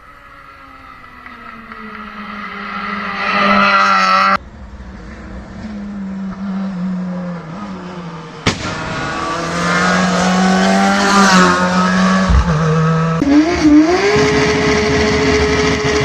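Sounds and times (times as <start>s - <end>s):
car engine rising and falling: 0.0s - 16.0s
race car engines accelerating: 0.0s - 16.0s.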